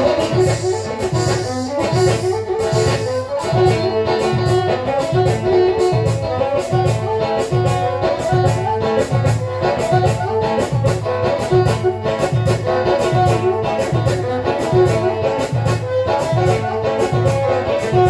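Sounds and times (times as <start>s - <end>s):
bowed fiddle melody: 0.0s - 18.0s
hand drum beat: 0.0s - 18.0s.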